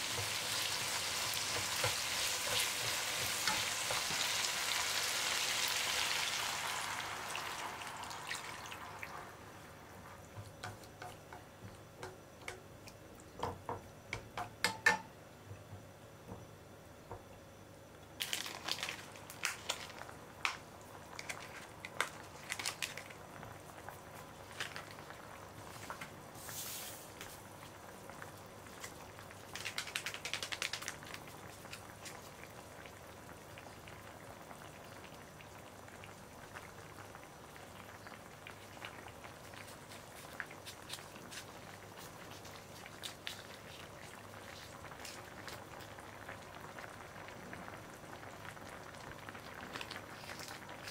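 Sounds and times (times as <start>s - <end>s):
broth simmering bubbling crackle: 0.0s - 50.9s.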